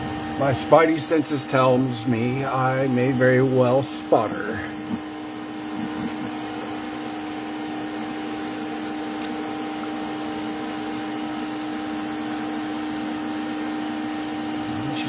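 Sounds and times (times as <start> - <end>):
vacuum humming: 0.0 - 15.0.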